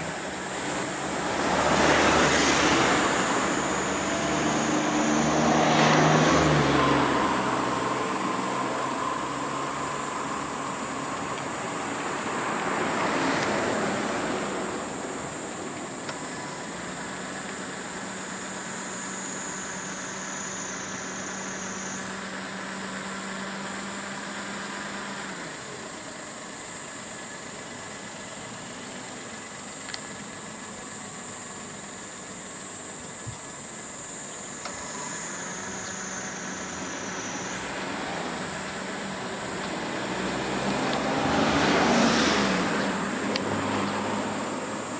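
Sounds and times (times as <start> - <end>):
steady high-pitched drone: 0.0 - 44.9
vehicles passing: 0.0 - 44.9.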